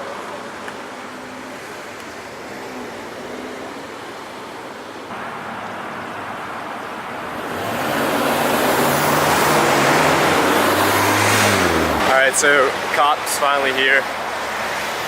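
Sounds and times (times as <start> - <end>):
car approaching: 0.0 - 15.0.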